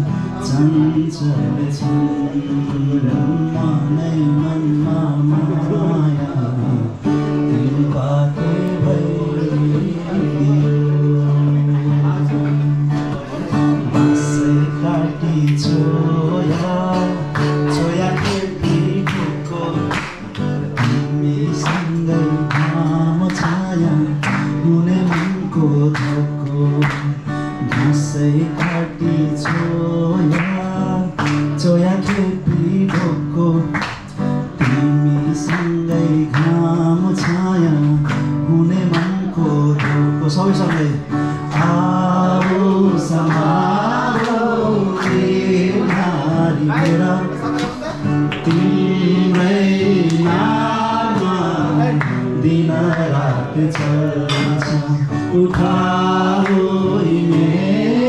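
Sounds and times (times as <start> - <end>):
guitar: 0.0 - 58.0
man singing: 0.0 - 58.0.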